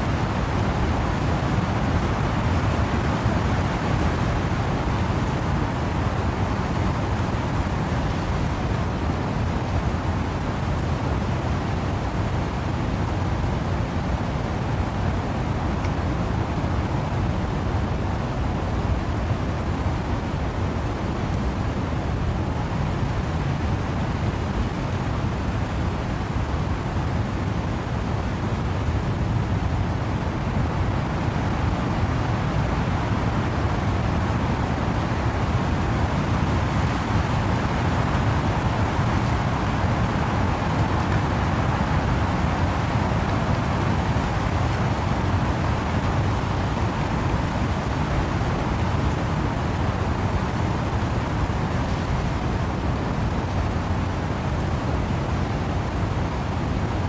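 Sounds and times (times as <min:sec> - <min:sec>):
wind and rain in trees: 0:00.0 - 0:57.0.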